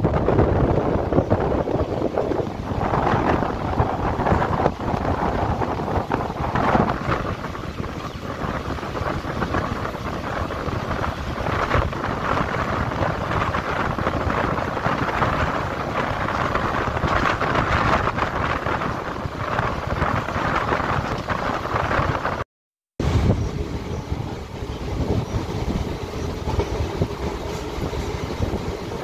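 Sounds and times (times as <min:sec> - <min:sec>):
train coaches rumbling on track: 0:00.0 - 0:22.4, 0:23.0 - 0:29.0
wind buffeting microphone: 0:00.0 - 0:22.4, 0:23.0 - 0:29.0.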